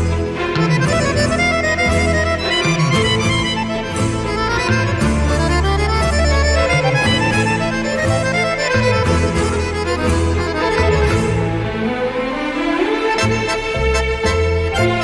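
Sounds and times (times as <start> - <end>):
accordion: 0.0 - 15.0
sustained bass notes: 0.0 - 15.0
violins: 0.0 - 15.0.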